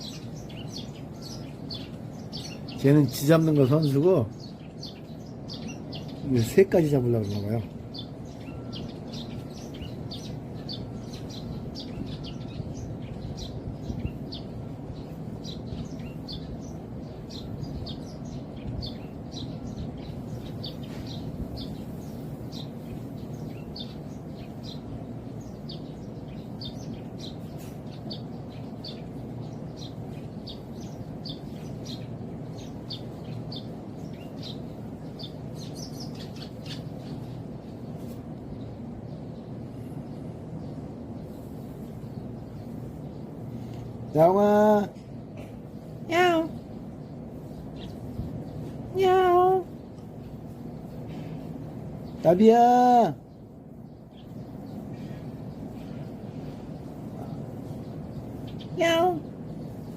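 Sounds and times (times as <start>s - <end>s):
low background rumble: 0.0s - 59.9s
sparrows chirping: 0.0s - 59.9s.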